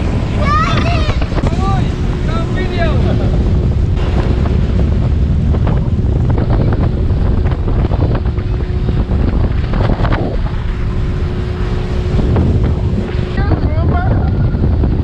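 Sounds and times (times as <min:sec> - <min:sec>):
boat motor humming: 0:00.0 - 0:15.0
water rushing along hull: 0:00.0 - 0:15.0
wind buffeting microphone: 0:00.0 - 0:15.0.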